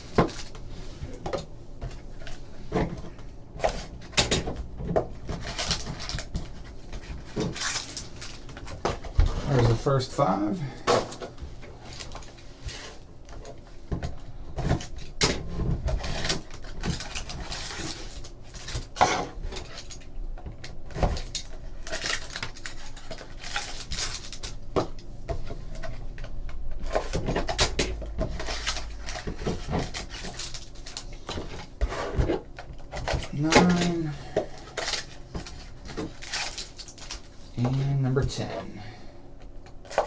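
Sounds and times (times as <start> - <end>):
card packs tapping and rustling: 0.0 - 38.8.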